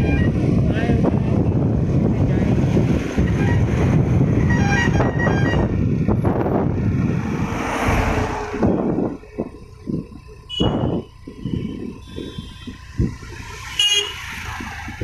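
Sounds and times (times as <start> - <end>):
road rumble: 0.0 - 15.0
traffic noise: 0.0 - 15.0
wind buffeting: 0.0 - 15.0.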